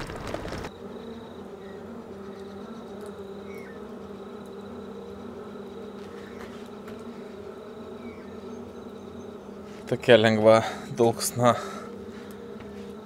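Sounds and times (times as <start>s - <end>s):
low buzzing hum: 0.0s - 13.0s.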